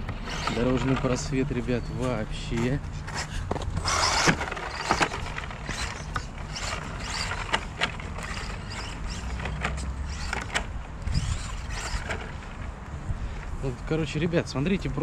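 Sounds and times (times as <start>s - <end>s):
toy car rattling over dirt: 0.0s - 12.8s.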